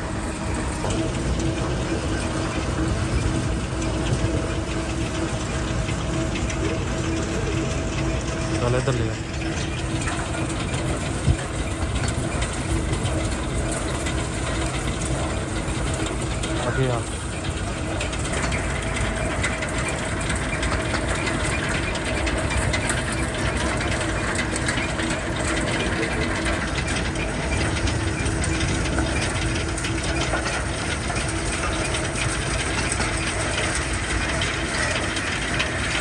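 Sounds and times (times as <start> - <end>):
factory machinery rattling: 0.0 - 36.0.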